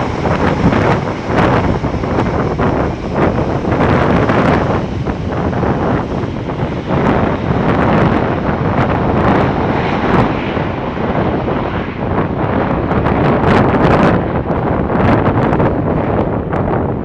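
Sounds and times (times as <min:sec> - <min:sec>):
turboprop engines running: 0:00.0 - 0:17.0
wind buffeting microphone: 0:00.0 - 0:17.0.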